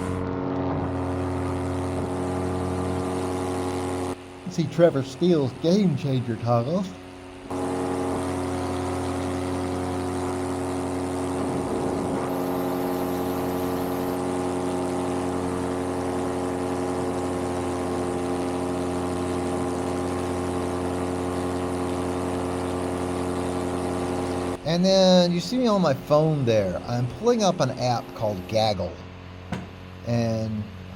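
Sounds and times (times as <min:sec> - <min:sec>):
paramotor engine running: 0:00.0 - 0:30.9.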